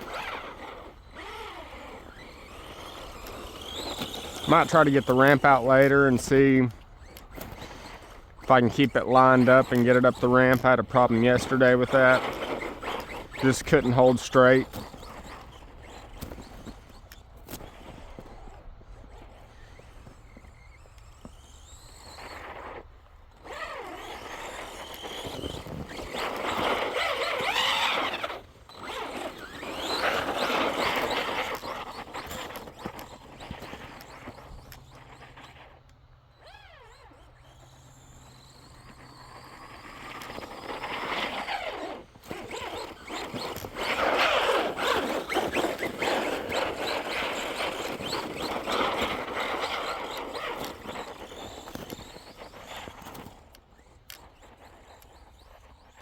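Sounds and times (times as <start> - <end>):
rc truck motor whining: 0.0 - 56.0.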